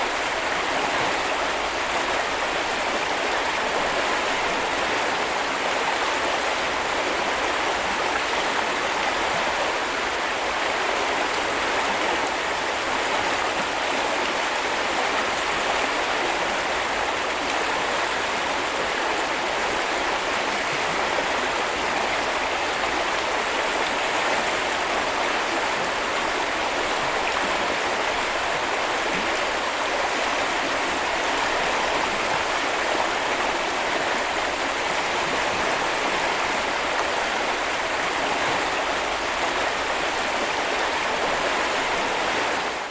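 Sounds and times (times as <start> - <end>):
stream flowing over stones: 0.0 - 42.9.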